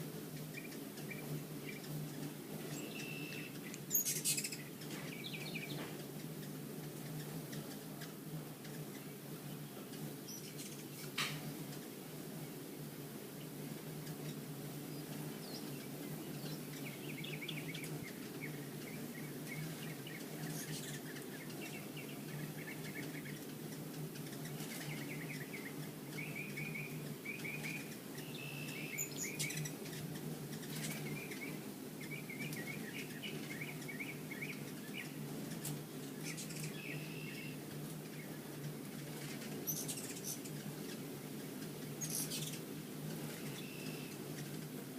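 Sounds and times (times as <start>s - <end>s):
hummingbirds twittering: 0.0s - 44.9s
wing buzz hum: 0.0s - 44.9s.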